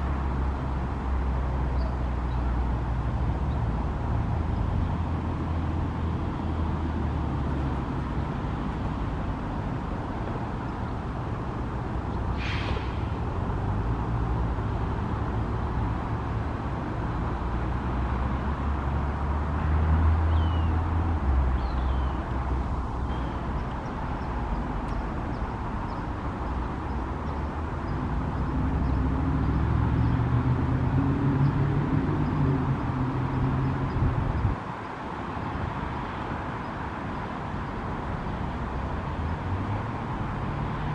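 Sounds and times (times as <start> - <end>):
vehicle traffic rumble: 0.0 - 40.9.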